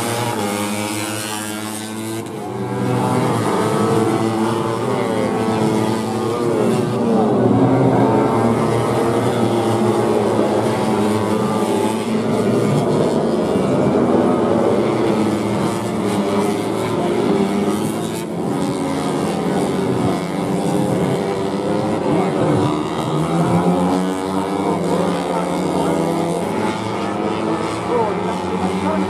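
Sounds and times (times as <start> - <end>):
racing motorcycles revving: 0.0 - 29.0.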